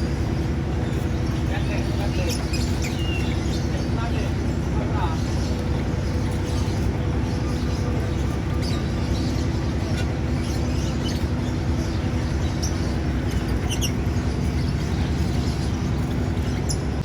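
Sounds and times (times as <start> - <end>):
faint hum: 0.0 - 17.0
high bird chirps: 0.0 - 17.0.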